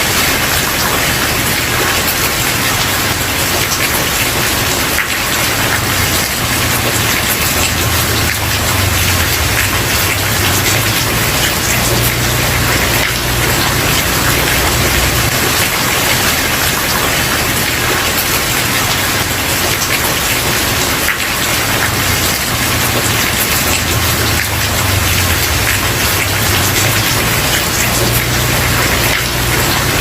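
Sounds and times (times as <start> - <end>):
rain on a wooden porch: 0.0 - 30.0.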